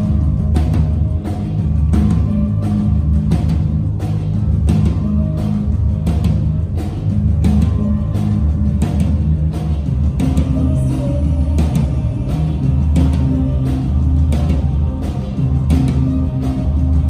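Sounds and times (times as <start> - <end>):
deep sustained bass notes: 0.0 - 17.0.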